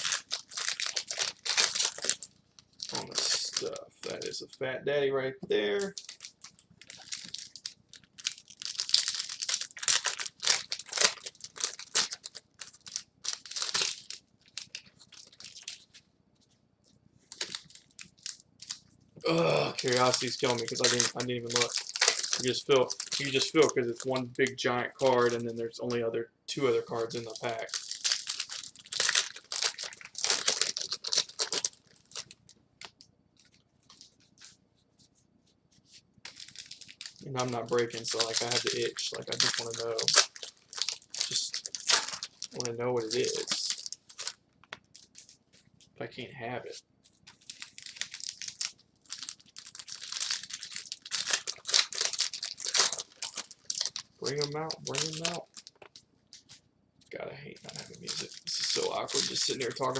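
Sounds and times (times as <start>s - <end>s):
card wrappers tearing and crinkling: 0.0s - 4.4s, 5.6s - 16.0s, 17.3s - 18.8s, 19.7s - 25.5s, 26.9s - 34.6s, 36.3s - 45.4s, 47.0s - 56.6s, 57.6s - 59.9s.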